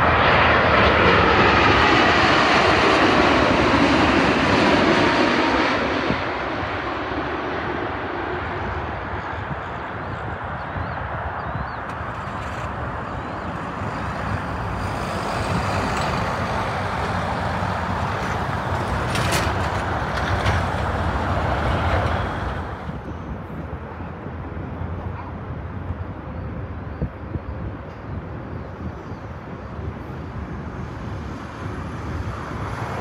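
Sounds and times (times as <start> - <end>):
jet engines roaring: 0.0 - 26.8, 29.3 - 33.0.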